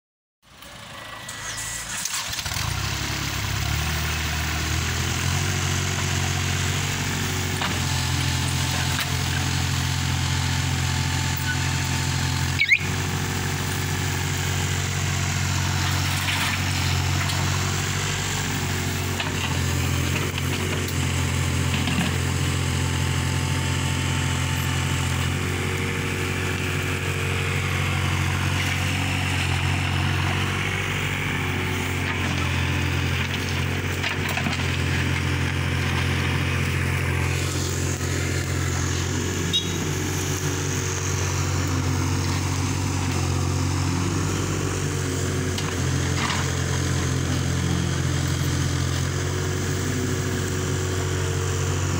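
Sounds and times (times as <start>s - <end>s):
excavator diesel engine running: 0.5s - 51.9s.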